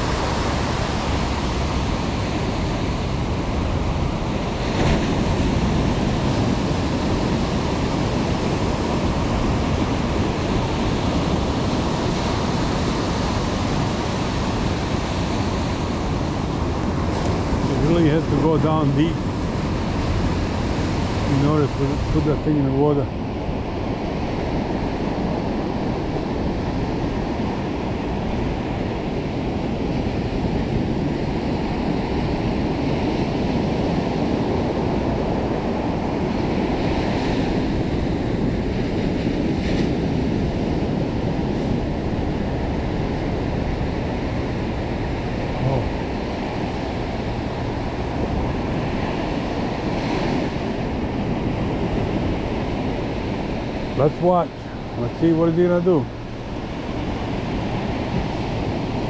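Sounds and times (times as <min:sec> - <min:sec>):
ocean surf rushing: 0:00.0 - 0:59.0
wind rumbling on microphone: 0:00.0 - 0:59.0.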